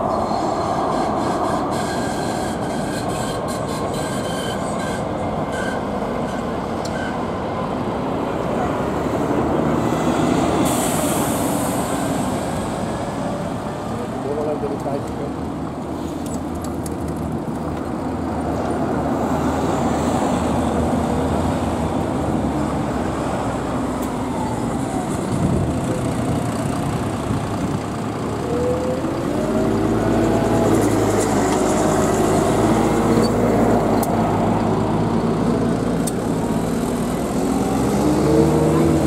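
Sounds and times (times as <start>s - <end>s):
vehicle engine rumbling: 0.0s - 39.0s.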